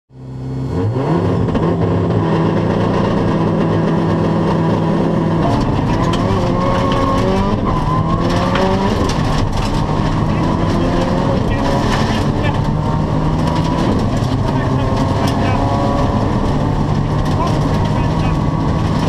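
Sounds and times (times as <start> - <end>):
rally car engine revving and accelerating: 0.2 - 19.0
engine crackles: 0.9 - 19.0.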